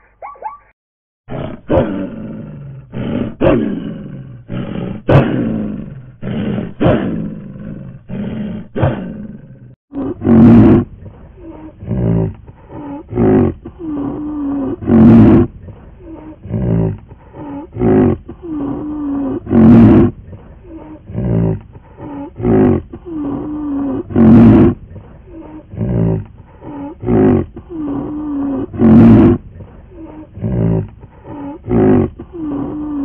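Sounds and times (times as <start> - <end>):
animal roaring and growling: 1.3 - 33.0.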